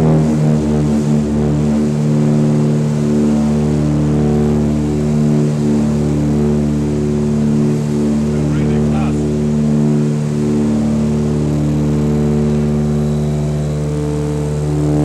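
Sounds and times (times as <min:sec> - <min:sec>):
propeller aircraft engines droning: 0:00.0 - 0:15.0.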